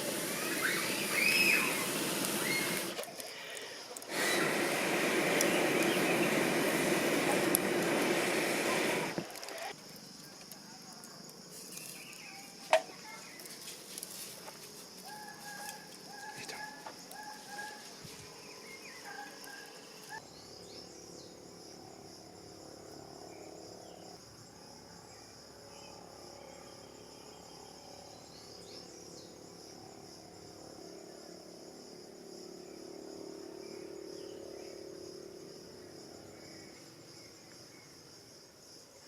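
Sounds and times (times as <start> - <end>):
insects chorus: 0.0 - 39.0.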